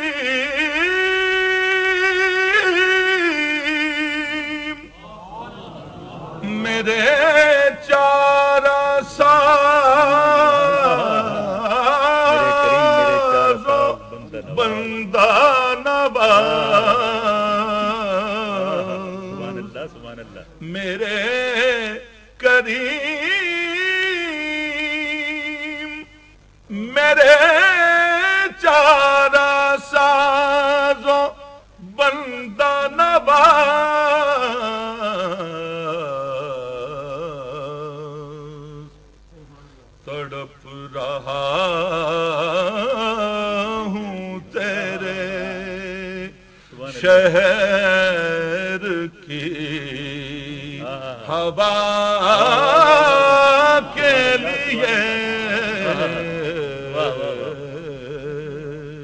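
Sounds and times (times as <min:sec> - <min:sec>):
man singing: 0:00.0 - 0:05.0, 0:06.4 - 0:39.0, 0:40.0 - 0:59.0
man chanting melodically: 0:00.0 - 0:59.0.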